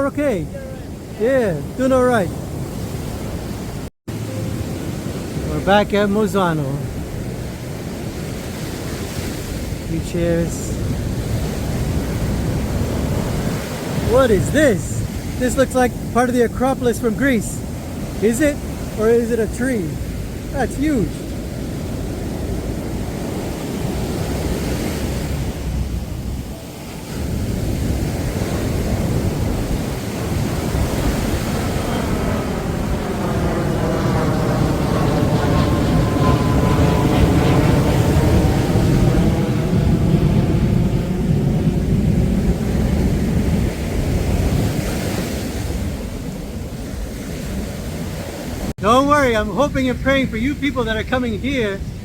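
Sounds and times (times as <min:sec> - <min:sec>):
surf breaking on shore: 0:00.0 - 0:52.0
wind on microphone: 0:00.0 - 0:52.0
low-flying airplane passing: 0:00.8 - 0:10.0, 0:10.6 - 0:48.7.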